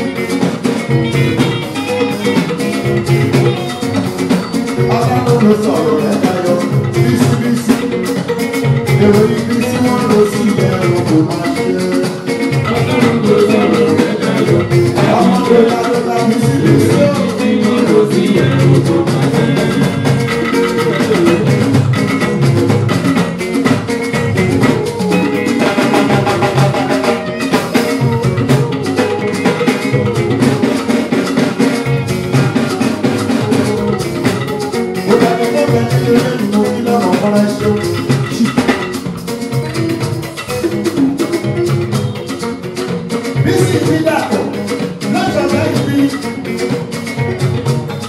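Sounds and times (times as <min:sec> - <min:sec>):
bass guitar: 0:00.0 - 0:48.0
drum and percussion beat: 0:00.0 - 0:48.0
electric guitar: 0:00.0 - 0:48.0.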